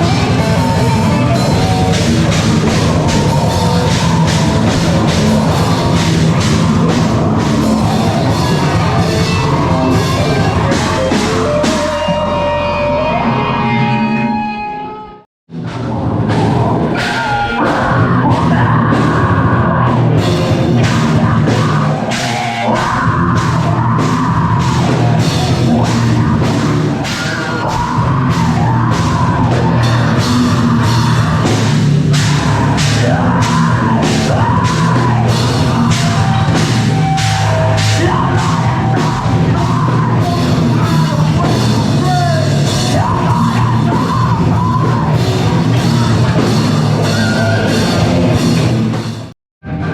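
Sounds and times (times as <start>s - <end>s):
pounding drum kit: 0.0s - 14.7s, 15.5s - 49.9s
distorted electric guitar: 0.0s - 49.9s.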